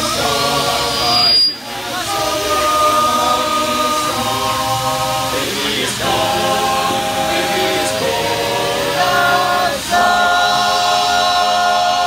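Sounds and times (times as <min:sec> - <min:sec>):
male a cappella group singing: 0:00.0 - 0:12.0.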